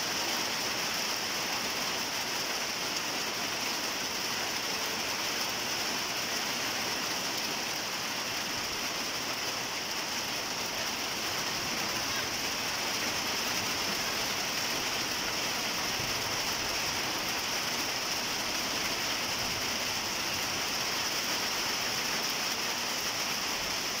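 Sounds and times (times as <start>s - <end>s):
rain falling through foliage: 0.0s - 24.0s.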